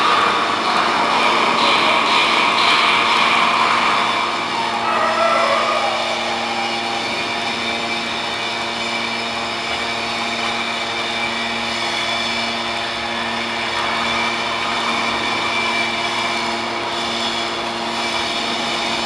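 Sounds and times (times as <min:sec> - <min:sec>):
hydraulic motor and pump humming: 0:00.0 - 0:19.0.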